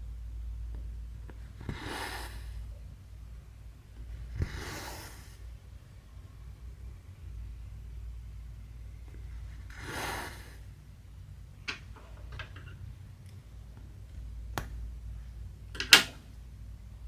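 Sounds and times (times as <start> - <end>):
faint low room hum: 0.0 - 17.0.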